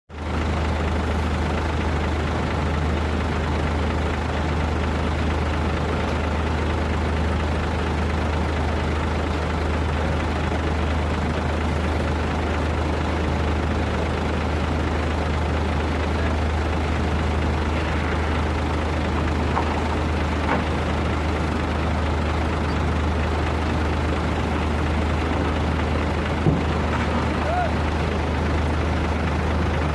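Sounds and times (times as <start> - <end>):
diesel engine humming: 0.1 - 29.9.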